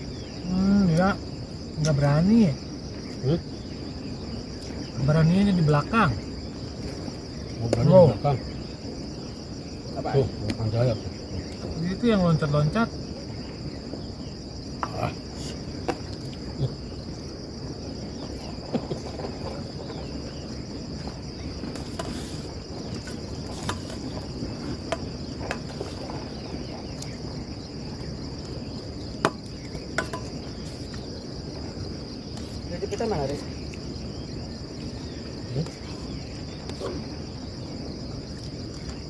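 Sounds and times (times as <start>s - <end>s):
insects trilling: 0.0s - 39.0s.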